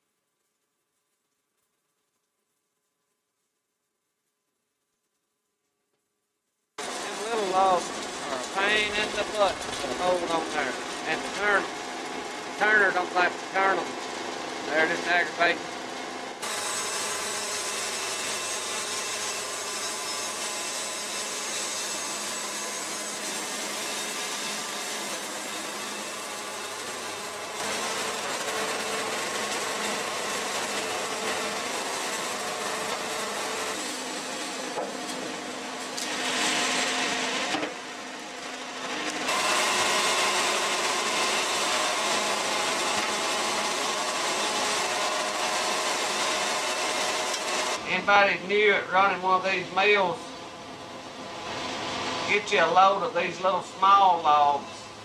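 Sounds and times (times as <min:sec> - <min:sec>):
band saw cutting logs: 0:06.8 - 0:55.0
sawmill engine running: 0:06.8 - 0:55.0.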